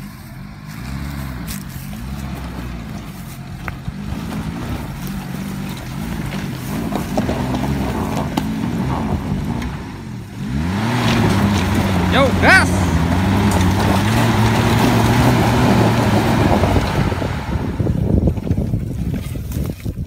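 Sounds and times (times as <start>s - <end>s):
engine revving under load: 0.0s - 18.6s.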